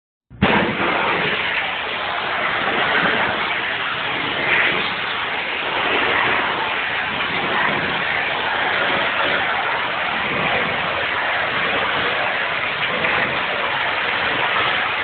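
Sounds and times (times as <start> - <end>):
pressure washer spraying concrete: 0.4 - 15.0.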